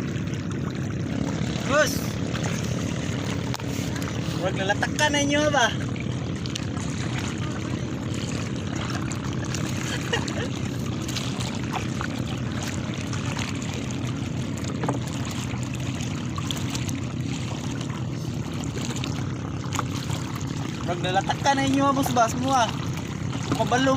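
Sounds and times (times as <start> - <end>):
steady low rumble: 0.0 - 23.9
water splashing and trickling: 0.0 - 23.9.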